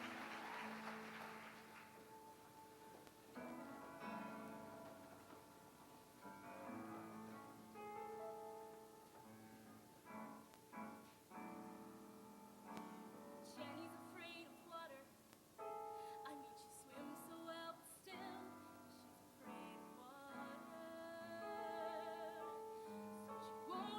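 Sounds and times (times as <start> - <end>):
piano accompaniment: 0.0 - 23.9.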